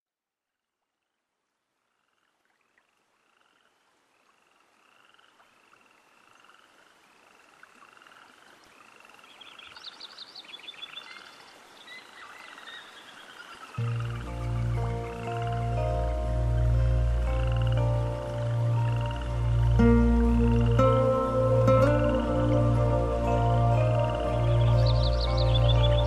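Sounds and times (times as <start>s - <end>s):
frogs croaking in chorus: 1.8s - 26.0s.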